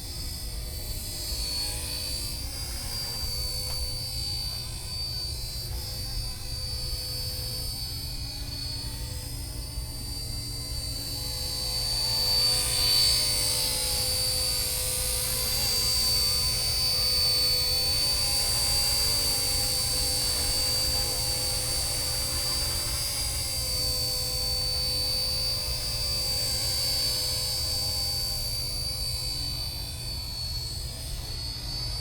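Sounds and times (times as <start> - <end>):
model helicopter whining: 0.0 - 32.0.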